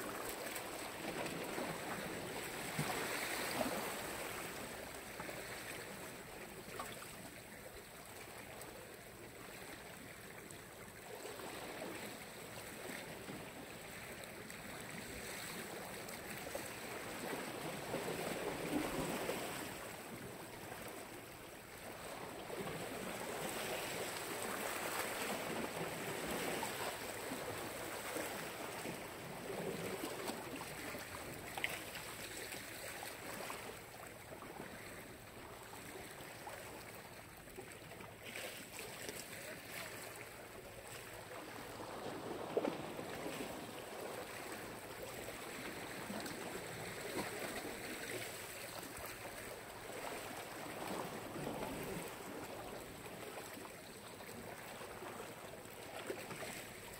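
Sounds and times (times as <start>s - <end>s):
waves washing on shore: 0.0s - 7.3s, 11.2s - 37.2s, 38.6s - 56.9s.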